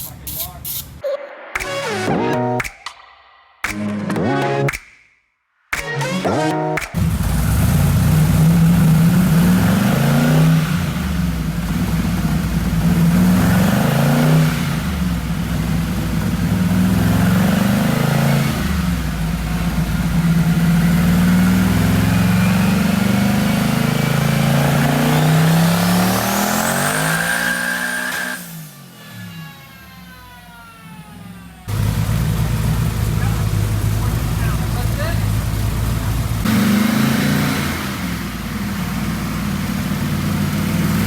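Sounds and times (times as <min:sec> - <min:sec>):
car engine revving: 0:06.9 - 0:30.3, 0:30.9 - 0:41.0.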